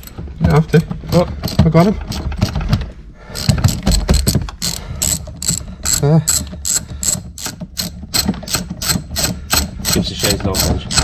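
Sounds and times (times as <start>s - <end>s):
hand ratchet clicking: 1.1s - 11.0s.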